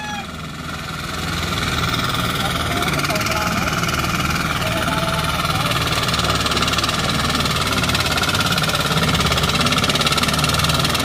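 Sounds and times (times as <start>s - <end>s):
hand tractor engine under load: 0.0s - 11.0s.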